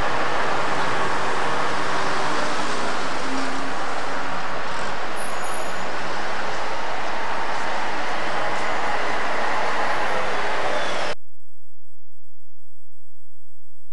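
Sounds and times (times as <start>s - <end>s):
street traffic rush: 0.0s - 11.2s.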